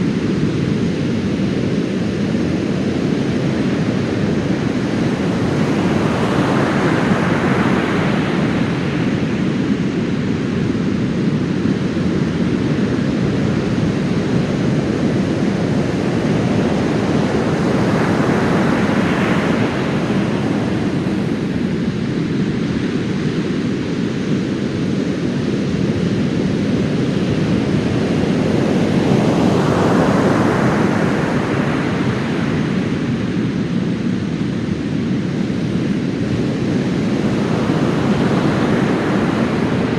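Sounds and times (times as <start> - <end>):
surf washing on beach: 2.2 - 23.2, 26.1 - 39.9.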